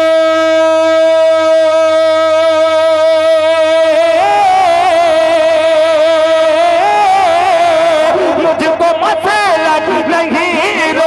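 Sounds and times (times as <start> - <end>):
man singing through loudspeaker: 0.0 - 11.0.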